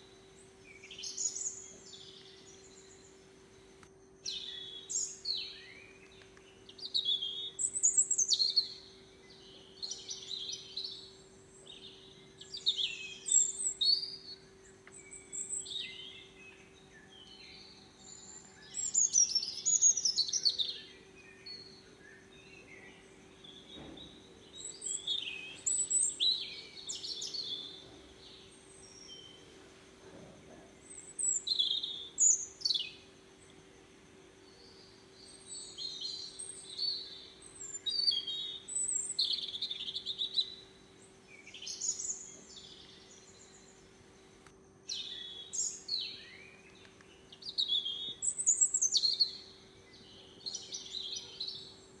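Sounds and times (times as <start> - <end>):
birds chirping: 0.0 - 52.0
faint steady hum: 0.0 - 52.0.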